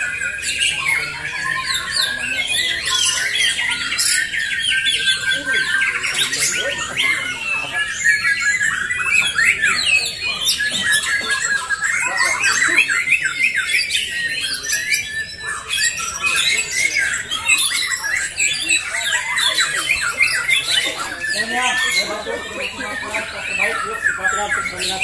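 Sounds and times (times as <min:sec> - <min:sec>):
many birds singing: 0:00.0 - 0:25.0.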